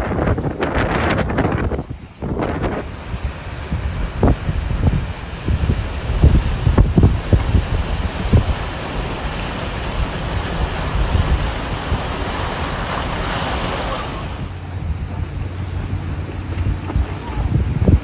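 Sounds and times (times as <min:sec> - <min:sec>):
rushing noise: 0:00.0 - 0:18.0
storm wind buffeting microphone: 0:00.0 - 0:18.0.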